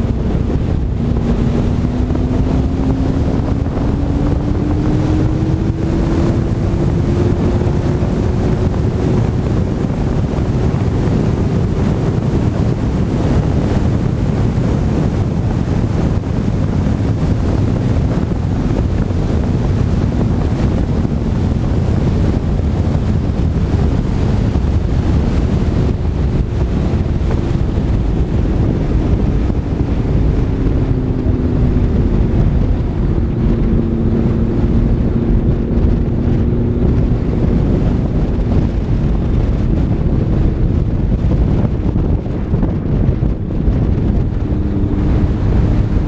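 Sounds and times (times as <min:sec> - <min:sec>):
faint car engine: 0:00.0 - 0:46.0
heavy wind rumble: 0:00.0 - 0:46.0.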